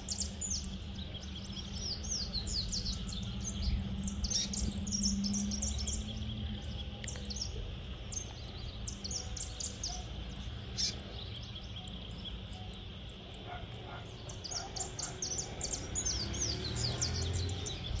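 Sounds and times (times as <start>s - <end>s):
finch singing: 0.0s - 18.0s.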